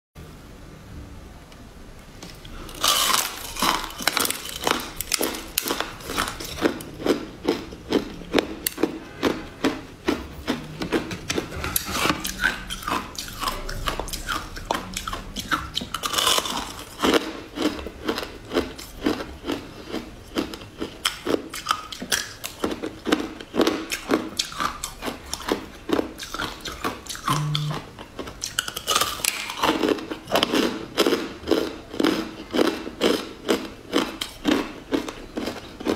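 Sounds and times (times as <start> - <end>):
crunchy food chewing: 2.2 - 35.9.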